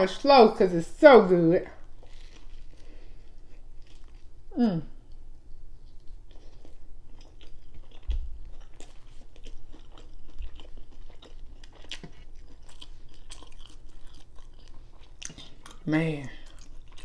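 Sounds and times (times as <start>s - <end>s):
crunchy chewing: 1.8s - 4.4s, 5.8s - 17.0s.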